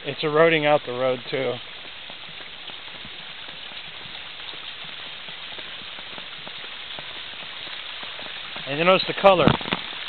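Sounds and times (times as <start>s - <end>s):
rainwater running and pattering: 0.0s - 10.0s.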